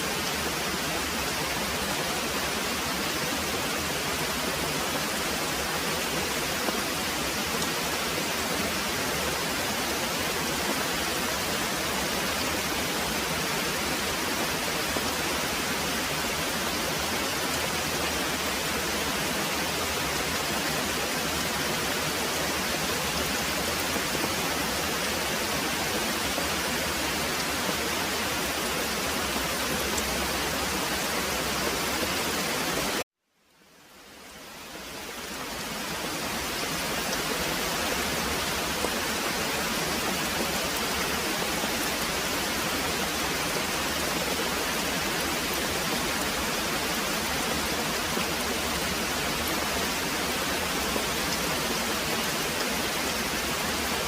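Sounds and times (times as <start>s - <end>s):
heavy rain pouring: 0.0s - 33.0s, 33.8s - 54.0s.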